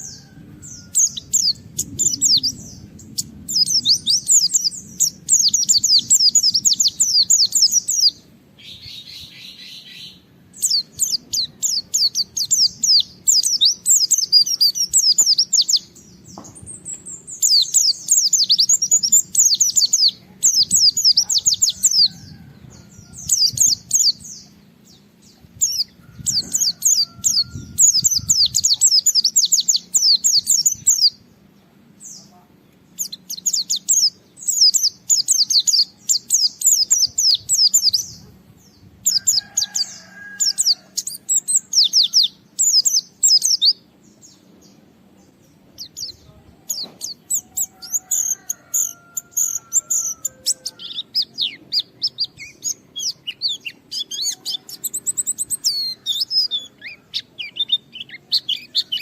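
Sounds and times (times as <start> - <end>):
bird twittering song: 0.0 - 59.0.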